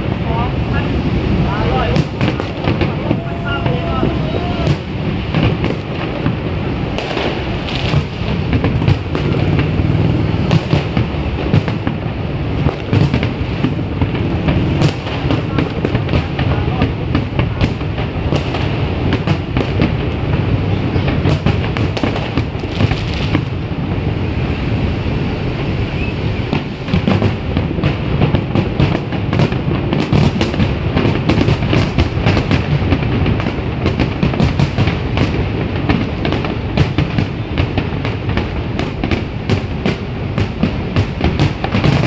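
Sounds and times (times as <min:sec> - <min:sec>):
deep rolling rumble: 0:00.0 - 0:36.8
fireworks cracking and booming: 0:00.0 - 0:42.0.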